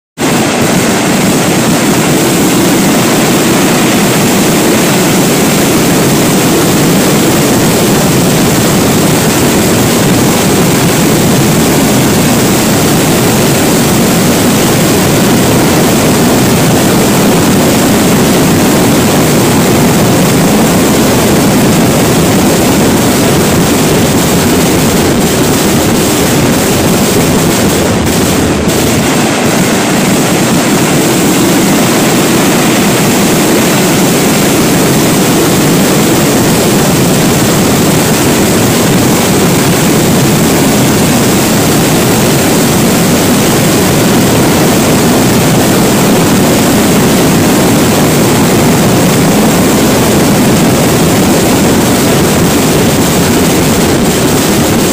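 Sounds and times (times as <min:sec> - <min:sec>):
fireworks barrage roaring: 0:00.2 - 0:54.9.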